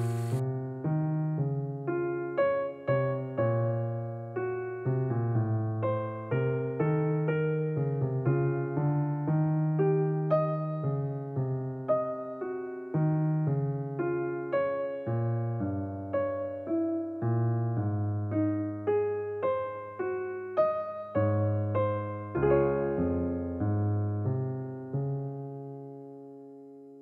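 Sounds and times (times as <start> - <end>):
keyboard melody: 1.0 - 27.0.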